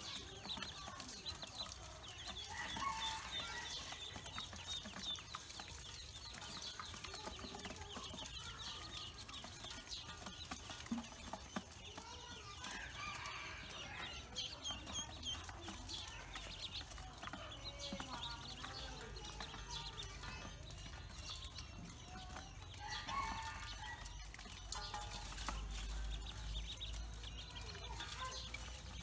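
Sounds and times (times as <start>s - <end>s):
ducklings peeping: 0.0s - 29.0s.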